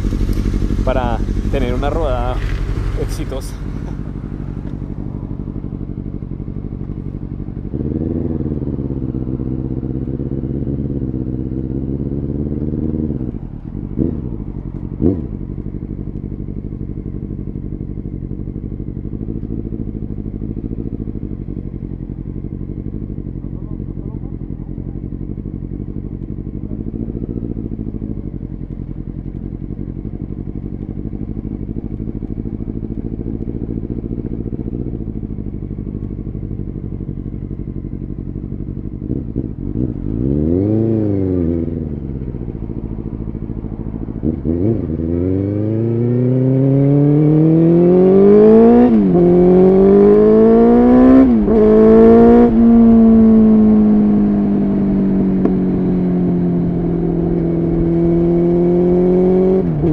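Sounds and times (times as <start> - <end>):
motorcycle engine idling: 0.0 - 45.7, 49.0 - 58.7
motorcycle revving through gears: 0.0 - 59.9.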